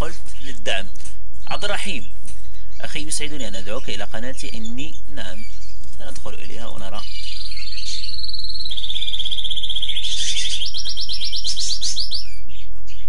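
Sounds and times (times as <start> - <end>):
songbird trilling: 0.4 - 13.0.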